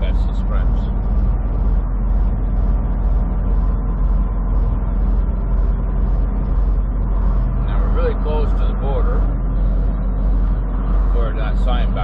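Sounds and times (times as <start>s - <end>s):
road noise: 0.0s - 12.0s
truck diesel engine droning: 0.0s - 12.0s.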